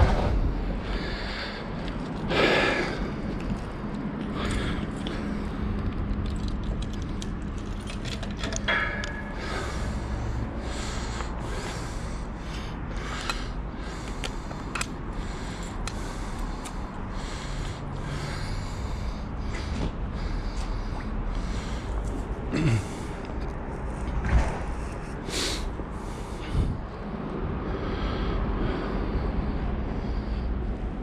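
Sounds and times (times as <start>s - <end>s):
heavy breathing: 0.0s - 23.7s, 24.8s - 31.0s
steady low rumble: 0.0s - 31.0s.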